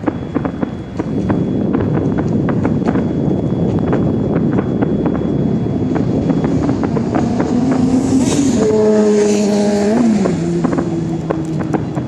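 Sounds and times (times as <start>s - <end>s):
distant fireworks popping: 0.0s - 12.0s
loud droning tone: 0.0s - 12.0s
steady rumble: 0.0s - 12.0s.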